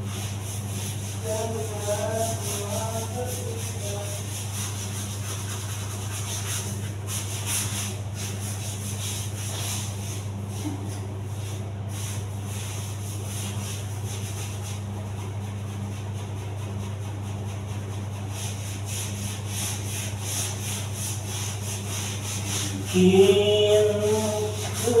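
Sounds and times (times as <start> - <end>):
brush scrubbing tiles: 0.0 - 25.0
steady low hum: 0.0 - 25.0.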